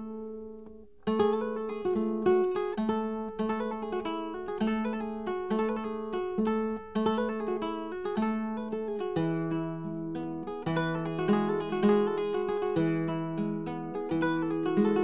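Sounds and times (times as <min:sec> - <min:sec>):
acoustic guitar plucking: 0:00.0 - 0:15.0.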